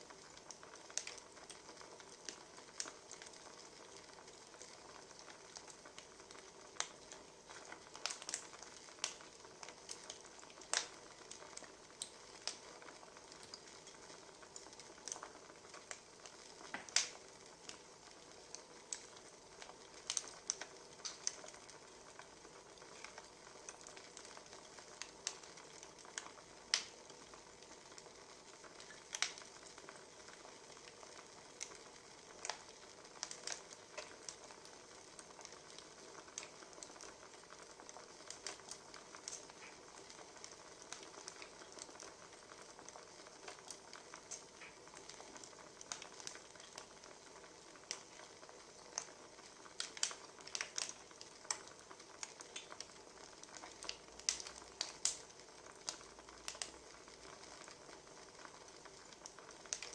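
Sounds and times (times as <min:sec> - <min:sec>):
firewood crackling: 0:00.0 - 0:59.9
low steady hiss: 0:00.0 - 0:59.9
sharp pops and snaps: 0:00.1 - 0:59.9.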